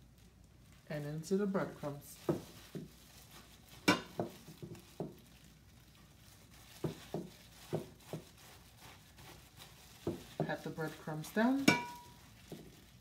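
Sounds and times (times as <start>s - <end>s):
soft pats in breadcrumbs: 1.6s - 13.0s.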